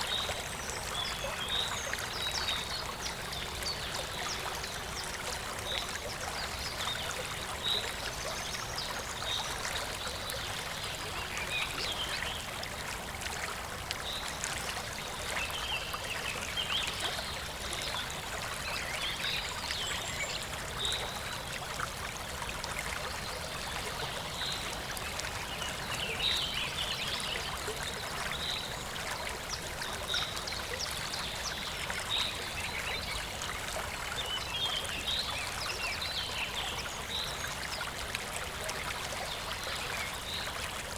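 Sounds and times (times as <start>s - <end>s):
stream flowing and gurgling: 0.0s - 40.9s.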